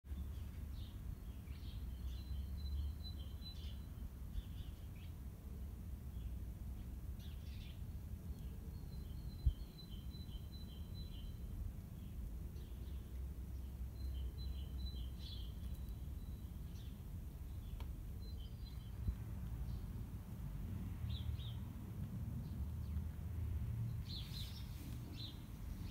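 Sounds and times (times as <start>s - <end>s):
small birds chirping: 0.1s - 23.3s, 23.9s - 25.9s
low outdoor rumble: 3.8s - 25.9s.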